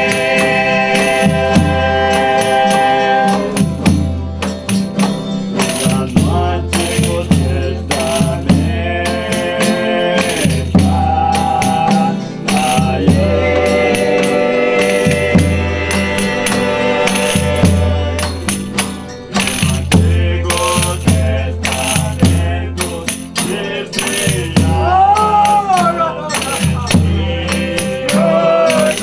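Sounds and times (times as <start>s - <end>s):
group of voices singing: 0.0s - 4.2s, 5.6s - 29.0s
bass drum beat: 0.0s - 9.6s, 10.3s - 29.0s
jingling tambourine: 0.0s - 29.0s
strummed violas: 0.0s - 29.0s.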